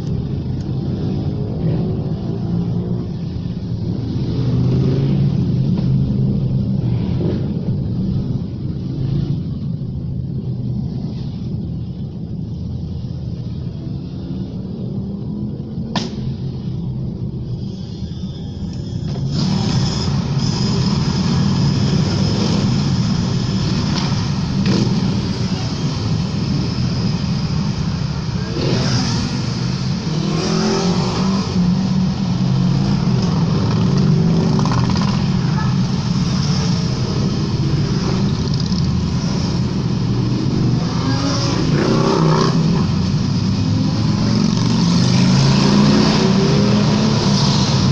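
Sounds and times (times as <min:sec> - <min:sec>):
motorcycles riding through tunnel: 0:00.0 - 0:47.9.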